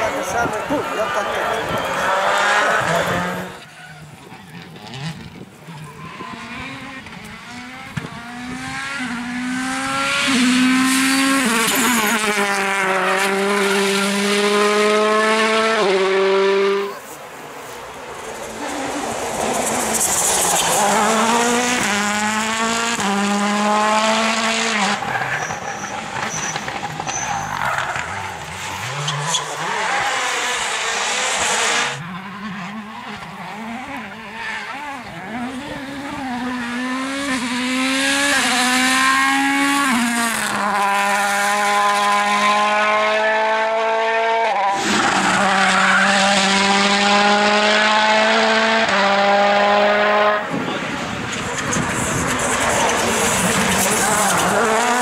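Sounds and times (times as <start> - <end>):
rally car engine at full throttle: 0.0 - 55.0.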